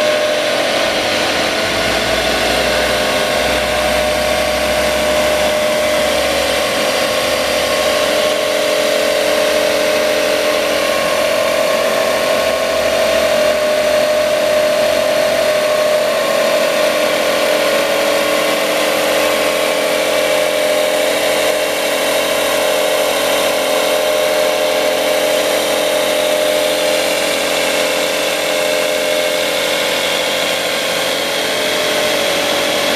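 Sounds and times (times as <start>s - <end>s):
belt sander running: 0.0s - 32.9s.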